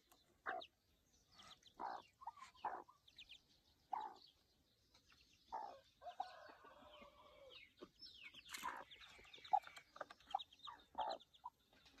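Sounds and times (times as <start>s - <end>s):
adult bird clucking: 0.0s - 3.3s, 3.9s - 4.3s, 5.5s - 7.6s, 8.2s - 12.0s
ducklings peeping: 0.0s - 12.0s.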